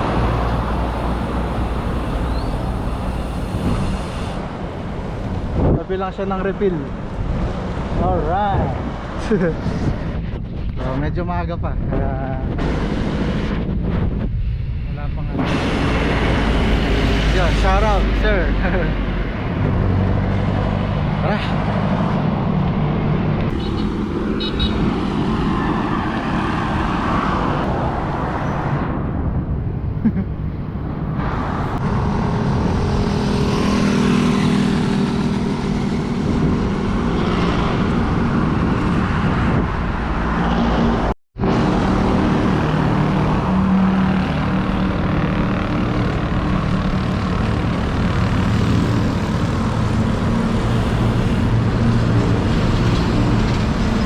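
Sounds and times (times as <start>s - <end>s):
passing cars and motorbikes: 0.0s - 54.0s
wind rush on microphone: 0.0s - 54.0s.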